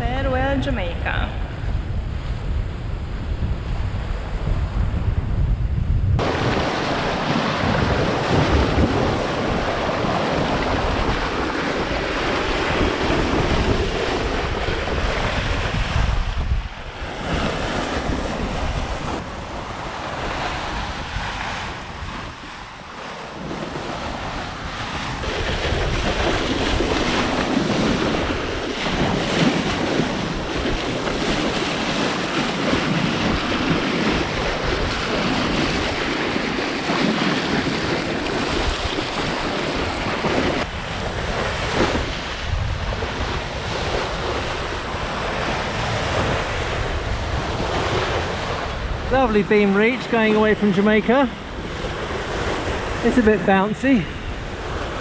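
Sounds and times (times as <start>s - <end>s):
wind buffeting microphone: 0.0s - 55.0s
water rushing along hull: 6.2s - 55.0s.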